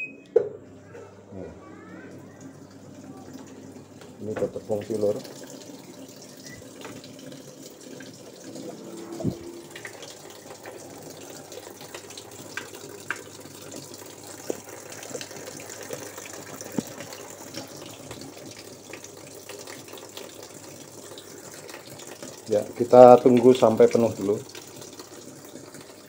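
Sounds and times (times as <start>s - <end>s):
water pouring into washing machine: 1.9s - 26.0s.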